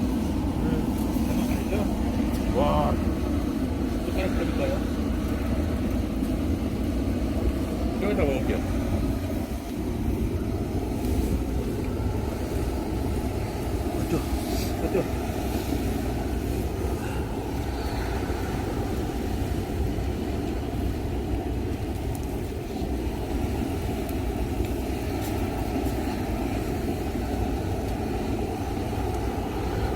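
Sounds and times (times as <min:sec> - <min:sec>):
low outdoor rumble: 0:00.0 - 0:29.9.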